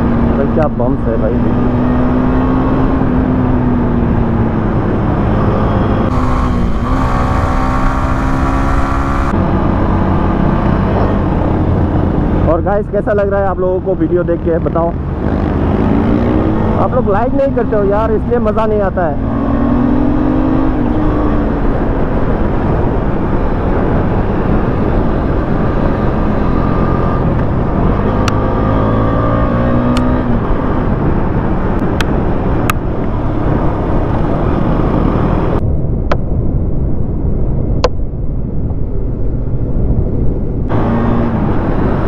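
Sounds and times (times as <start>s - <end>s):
motorcycle engine revving: 0.0s - 12.7s, 13.7s - 35.6s, 40.7s - 42.0s.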